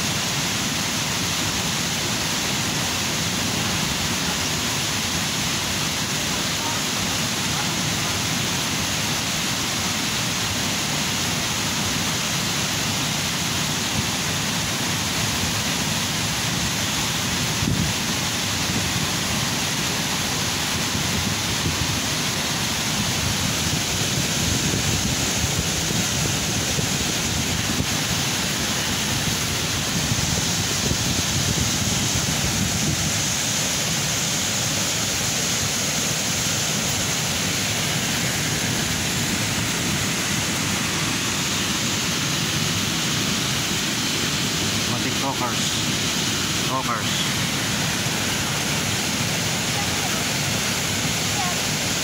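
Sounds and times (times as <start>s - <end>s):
river water tumbling over rocks: 0.0s - 52.0s.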